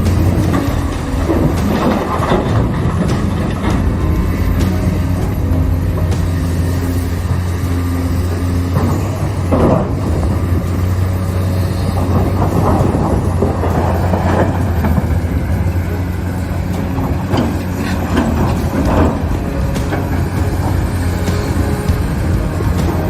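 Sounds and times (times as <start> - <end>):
excavator diesel engine running: 0.0 - 23.0
material clattering and scraping: 0.0 - 23.0.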